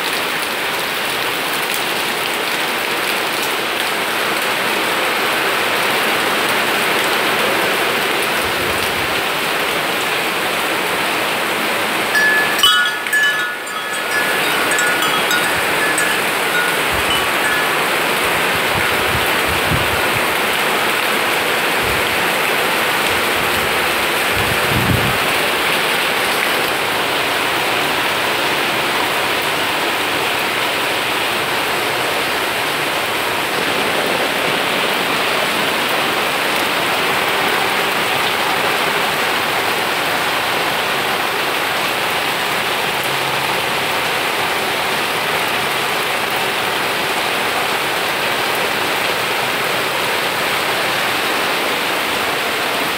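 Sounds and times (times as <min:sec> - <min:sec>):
heavy rain on foliage: 0:00.0 - 0:52.9.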